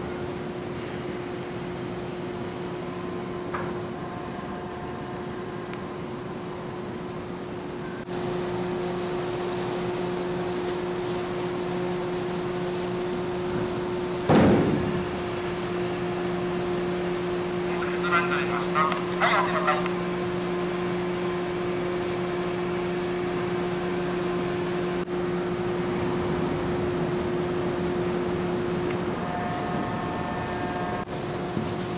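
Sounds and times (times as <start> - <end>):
ferry engines humming: 0.0 - 31.9.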